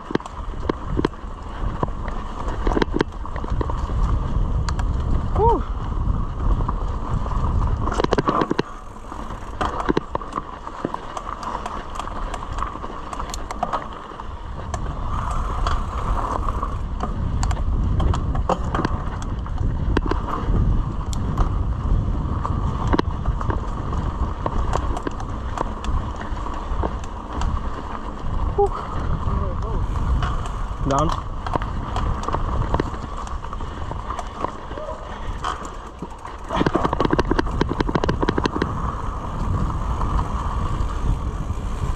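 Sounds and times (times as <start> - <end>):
bike clicks and rattles: 0.0 - 41.9
bike tyres on dirt: 0.0 - 41.9
wind rumble on microphone: 0.0 - 41.9.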